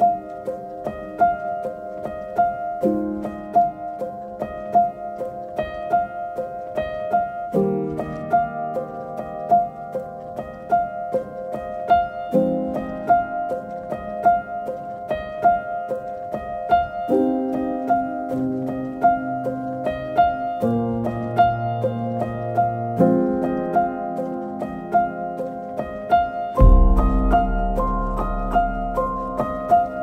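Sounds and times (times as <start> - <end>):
gentle instrumental music: 0.0 - 30.0.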